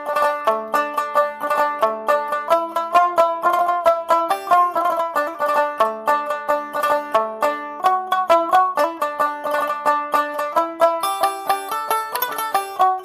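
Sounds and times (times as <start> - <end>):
plucked string melody: 0.0 - 13.0.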